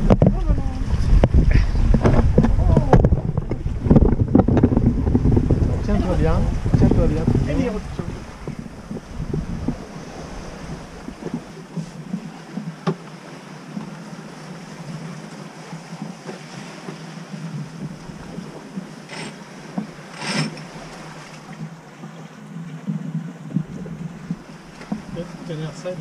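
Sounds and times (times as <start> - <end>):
water rushing along a hull: 0.0 - 26.0
wind: 0.0 - 26.0.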